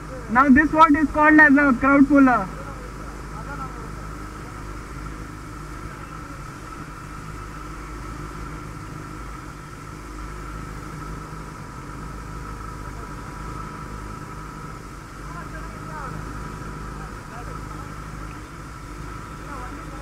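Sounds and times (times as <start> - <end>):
motorcycle idling: 0.0 - 20.0.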